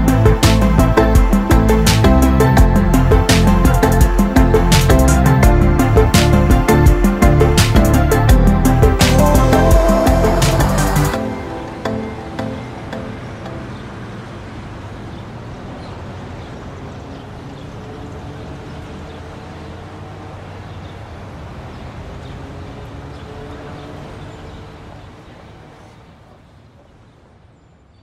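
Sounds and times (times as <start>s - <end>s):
urban traffic hum: 0.0s - 28.0s.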